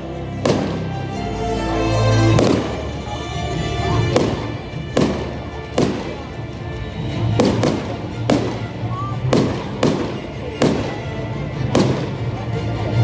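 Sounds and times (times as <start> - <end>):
loud music: 0.0 - 13.0
fireworks bursting: 0.1 - 12.5.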